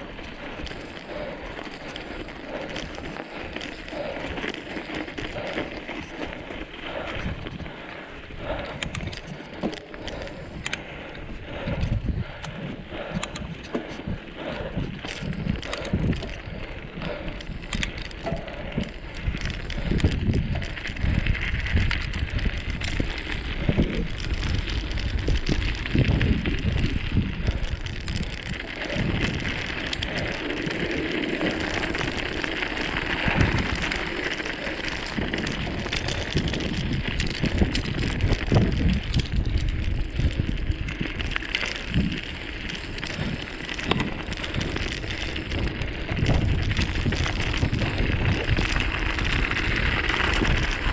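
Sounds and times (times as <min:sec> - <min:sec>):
crackling rustle along ground: 0:00.0 - 0:50.9
wind buffeting microphone: 0:00.0 - 0:50.9.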